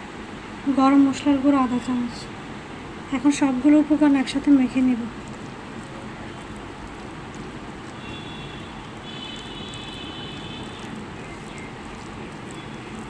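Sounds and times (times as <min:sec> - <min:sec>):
background rumble and hiss: 0:00.0 - 0:13.0.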